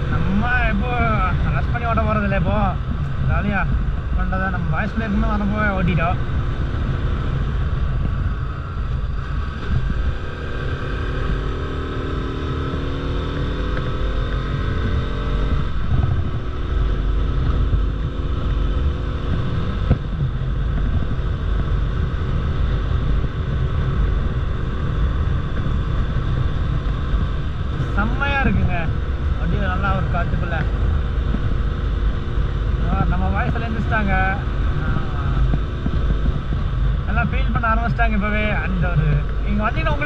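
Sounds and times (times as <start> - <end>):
motorcycle engine running: 0.0 - 40.0
wind rumble on microphone: 0.0 - 40.0.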